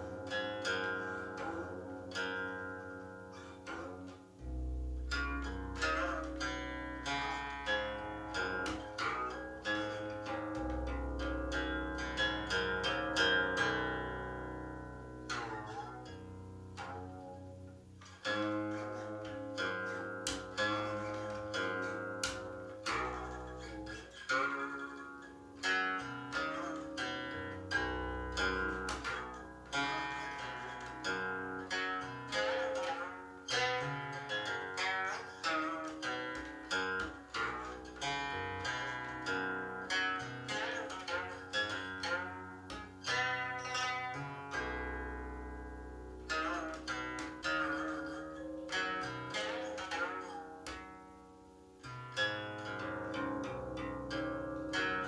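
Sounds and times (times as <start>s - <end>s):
plucked zither solo: 0.0s - 55.0s.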